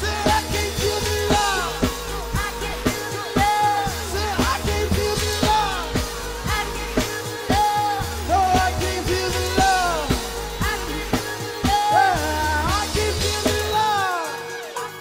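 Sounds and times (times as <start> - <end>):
deep bass: 0.0 - 14.0
drum kit: 0.0 - 15.0
electric guitar: 0.0 - 15.0
woman singing: 0.0 - 15.0.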